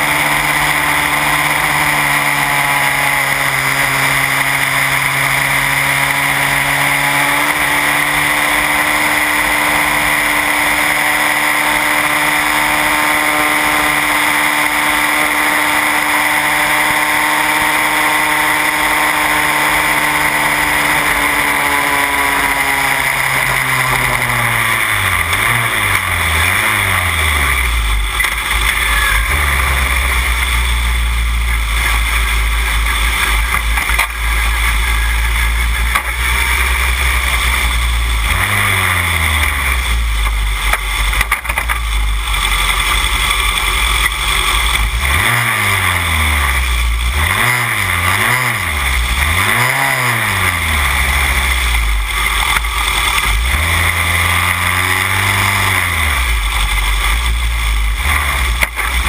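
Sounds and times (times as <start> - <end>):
racing car engine at high revs: 0.0 - 59.0.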